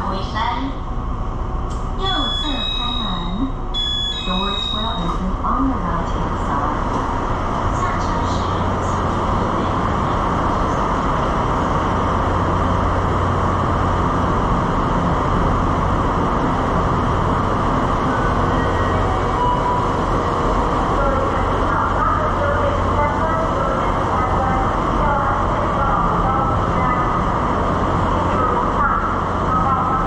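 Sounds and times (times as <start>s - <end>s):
standing train humming: 0.0s - 30.0s.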